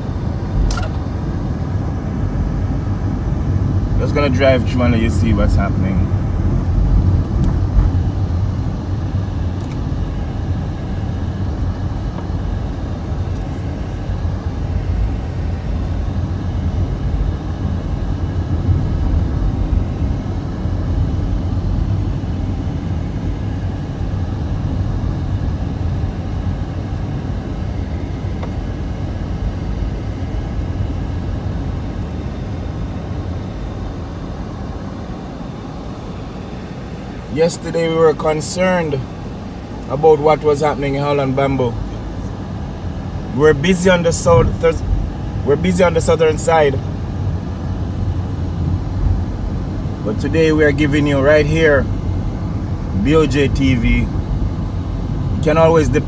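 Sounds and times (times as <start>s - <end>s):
road and engine noise inside car: 0.0s - 56.0s.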